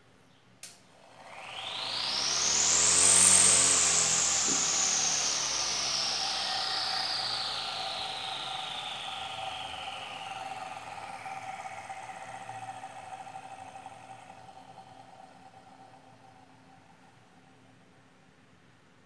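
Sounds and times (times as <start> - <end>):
electric motor whine winding down: 1.0 - 18.0.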